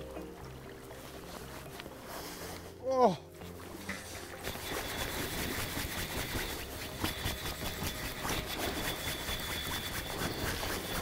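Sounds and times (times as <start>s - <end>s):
river flowing over gravel: 0.0s - 11.0s.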